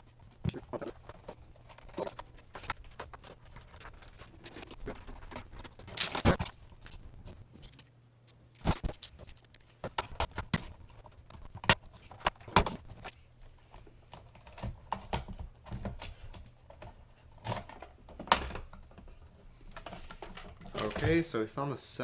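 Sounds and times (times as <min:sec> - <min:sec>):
clicks and knocks of prying parts: 0:00.3 - 0:21.2.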